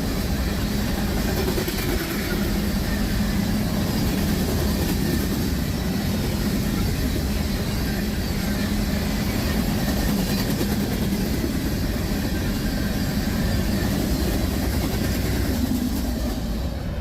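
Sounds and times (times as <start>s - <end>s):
freight train rumbling past: 0.0s - 17.0s
wheels on rail track: 0.0s - 17.0s.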